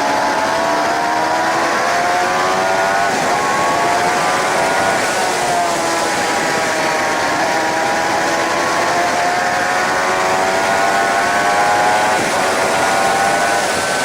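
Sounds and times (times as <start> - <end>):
motorcycle engine running: 0.0 - 14.0
wind rush: 0.0 - 14.0.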